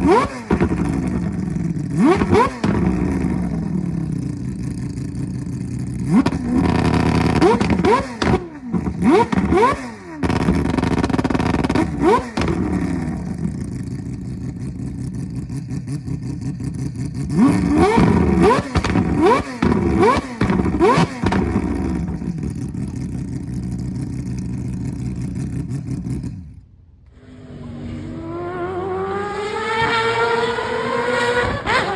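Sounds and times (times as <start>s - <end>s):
rotary engine revving: 0.0s - 31.9s.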